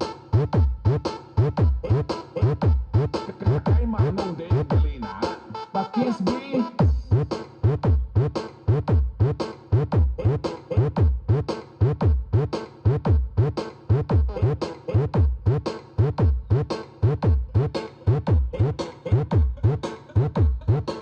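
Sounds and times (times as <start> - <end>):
loud electronic dance music: 0.0 - 21.0.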